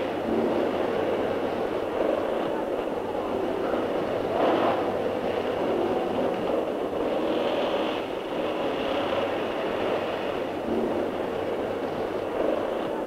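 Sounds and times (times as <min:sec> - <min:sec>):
factory mechanical rumble: 0:00.0 - 0:13.0.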